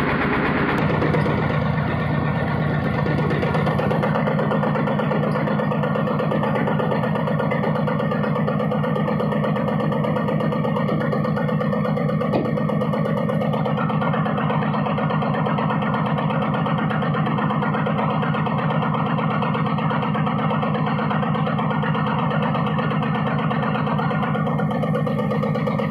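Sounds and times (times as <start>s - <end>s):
excavator engine running: 0.0s - 25.9s.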